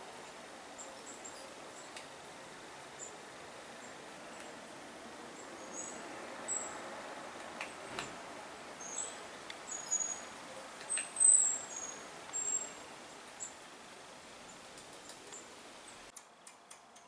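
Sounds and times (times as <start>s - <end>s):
outdoor hiss: 0.0s - 17.0s
small birds chirping: 0.2s - 7.8s, 8.7s - 17.0s.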